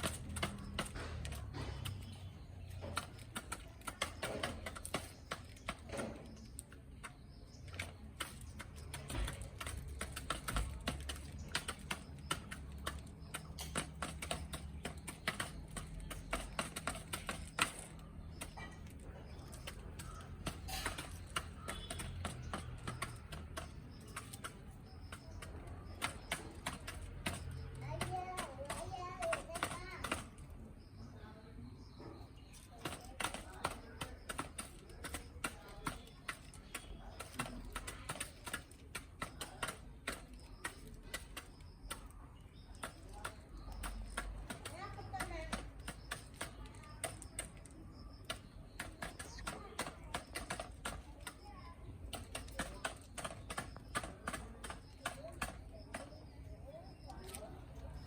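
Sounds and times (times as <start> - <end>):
chickens pecking taps: 0.0 - 58.0.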